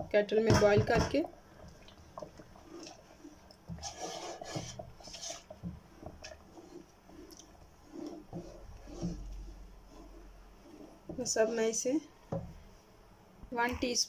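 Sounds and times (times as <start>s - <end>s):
wooden spoon stirring in a pot: 0.0s - 12.9s.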